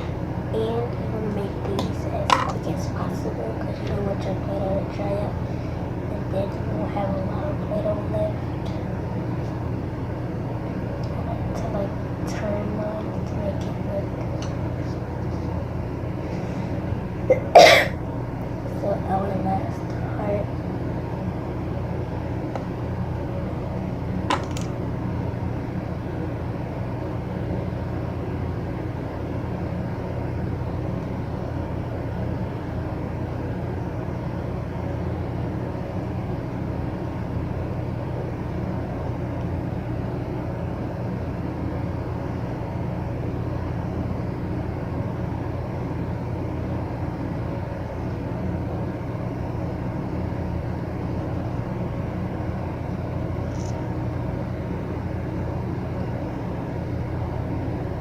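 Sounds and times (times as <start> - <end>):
low rumbling background noise: 0.0 - 58.0.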